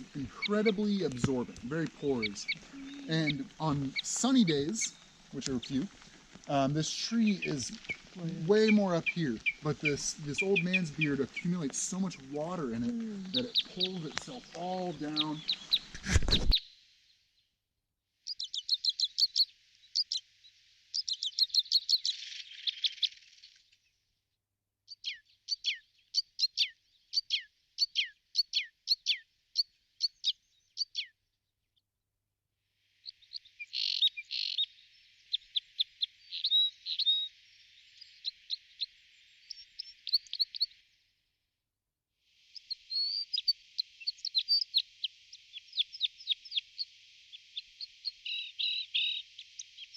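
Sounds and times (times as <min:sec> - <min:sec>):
small birds chirping: 0:00.0 - 0:17.1, 0:18.2 - 0:24.0, 0:24.8 - 0:31.8, 0:32.9 - 0:41.0, 0:42.3 - 0:49.9.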